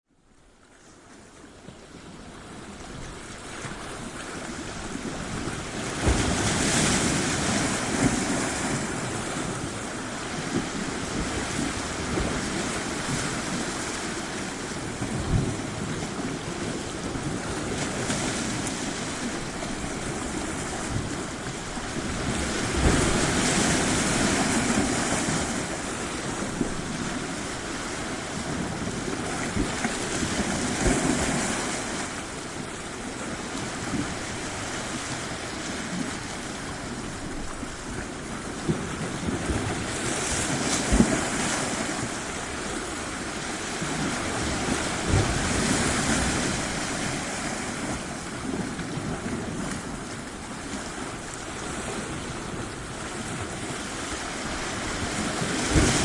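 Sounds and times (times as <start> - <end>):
ocean waves washing onto shore: 0.3 - 56.0.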